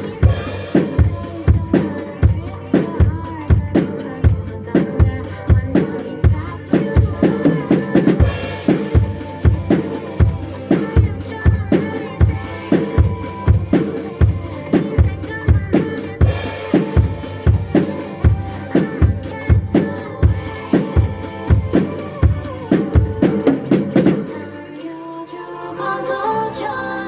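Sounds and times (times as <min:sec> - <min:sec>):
drum kit playing: 0:00.0 - 0:24.4
pop backing track: 0:00.0 - 0:27.0.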